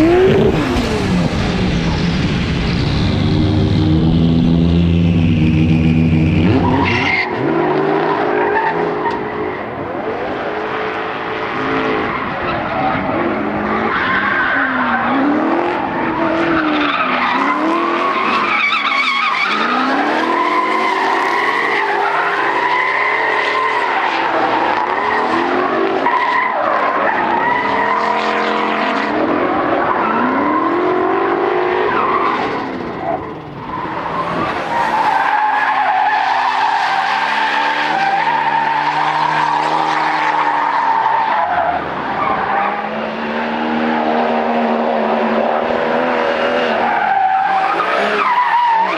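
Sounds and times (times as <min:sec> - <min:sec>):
car engines revving hard: 0:00.0 - 0:48.9.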